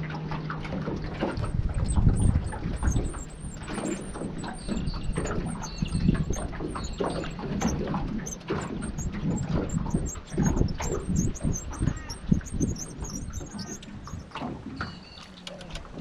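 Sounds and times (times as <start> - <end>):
wind buffeting microphone: 0.0 - 15.2
small birds chirping: 1.0 - 15.5.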